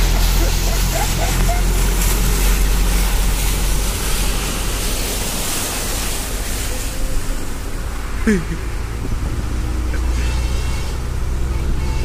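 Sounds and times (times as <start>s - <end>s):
low rumble: 0.0s - 11.5s
wind and road noise: 0.0s - 12.0s.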